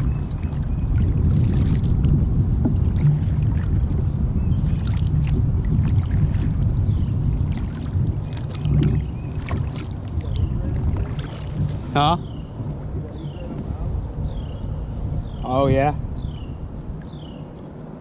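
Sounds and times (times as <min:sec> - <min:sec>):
wind and water rumble: 0:00.0 - 0:18.0.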